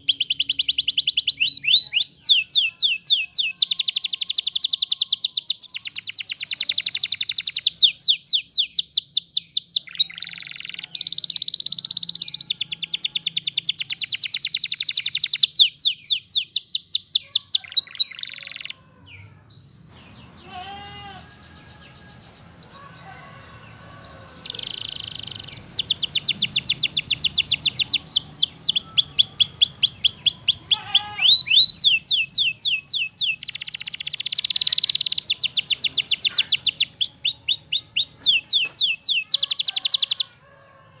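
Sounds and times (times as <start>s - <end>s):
canary singing trills: 0.0s - 40.4s.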